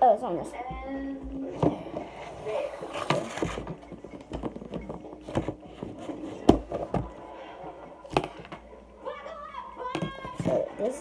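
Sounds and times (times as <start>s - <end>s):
objects tapping and knocking: 0.6s - 8.7s, 9.9s - 10.9s.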